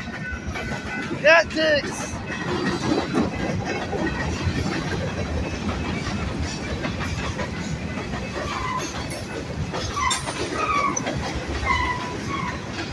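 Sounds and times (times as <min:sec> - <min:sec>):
steel wheels rolling on rails: 0:00.0 - 0:12.9
train wheel clicks: 0:00.0 - 0:12.9.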